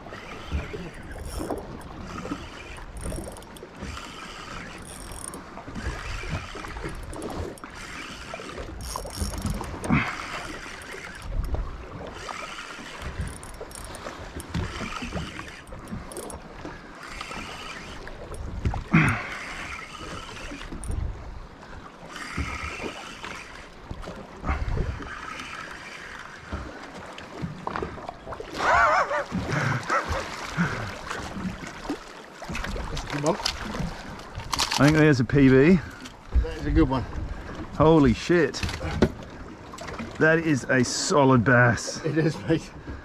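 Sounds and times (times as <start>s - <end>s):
waves splashing against boat hull: 0.0s - 43.0s.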